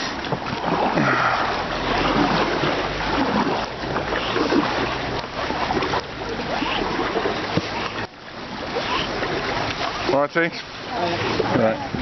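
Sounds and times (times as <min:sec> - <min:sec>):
water splashing around kayak: 0:00.0 - 0:12.0.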